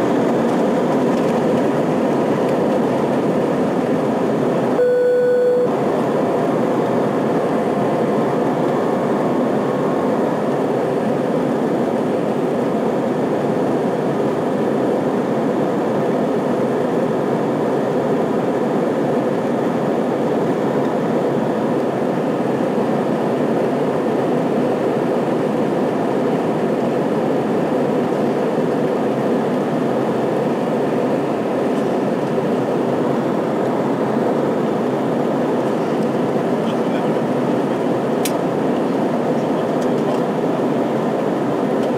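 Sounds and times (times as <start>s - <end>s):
jet engine rush in cabin: 0.0s - 41.9s.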